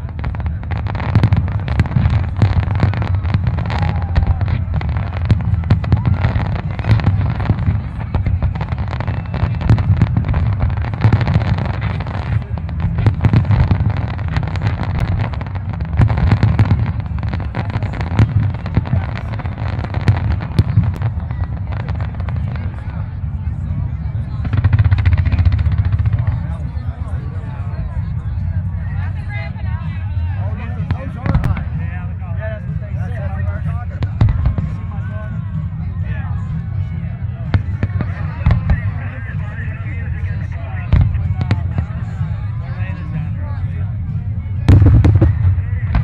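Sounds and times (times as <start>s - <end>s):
fireworks bursts and crackle: 0.0s - 46.0s.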